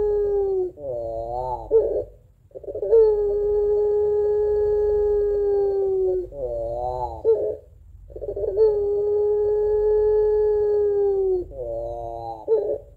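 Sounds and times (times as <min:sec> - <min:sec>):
dove cooing: 0:00.0 - 0:12.9.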